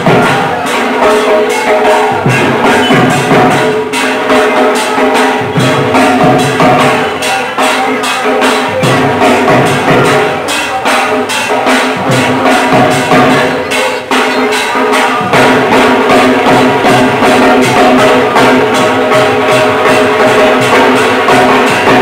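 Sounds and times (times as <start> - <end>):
barrel drums beaten with sticks: 0.0 - 22.0.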